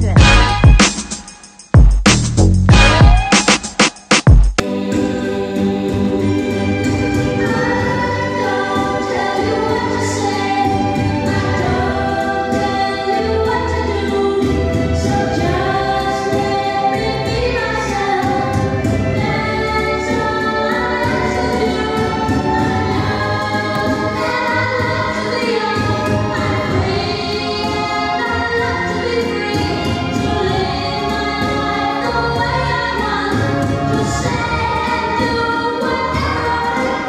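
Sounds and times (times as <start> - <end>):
choir singing sustained chords: 4.6 - 34.3.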